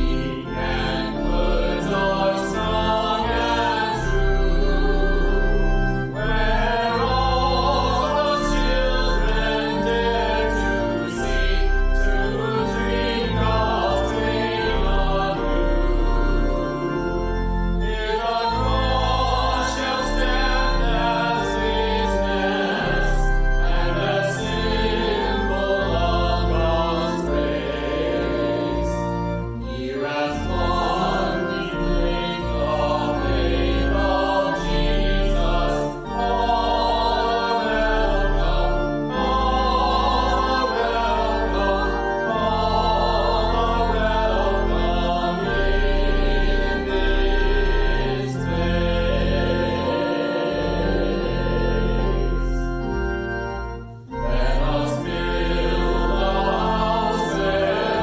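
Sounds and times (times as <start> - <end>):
choir singing a hymn: 0.0 - 58.0
instrumental accompaniment: 0.0 - 58.0.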